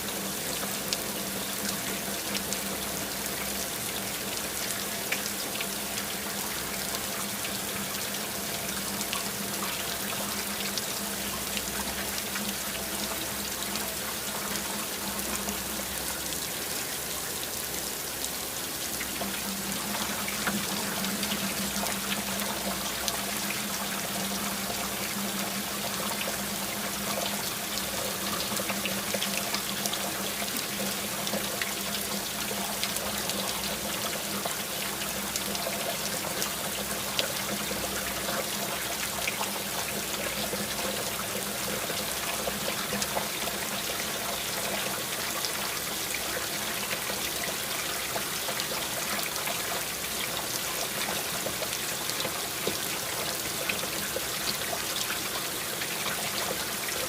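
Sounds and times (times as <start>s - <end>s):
rain drops falling: 0.0s - 57.0s
water trickling: 0.0s - 57.0s.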